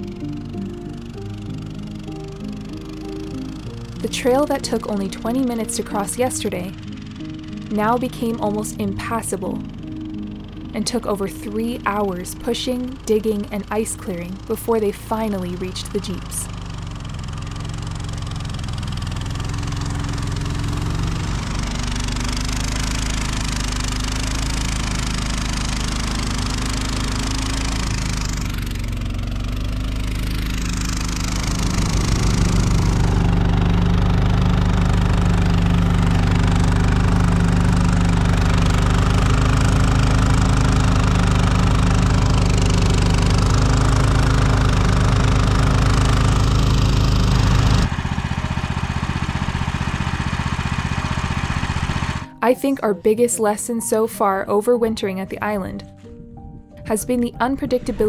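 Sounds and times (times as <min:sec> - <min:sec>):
snowmobile engine running: 0:00.0 - 0:52.8, 0:56.8 - 0:58.0.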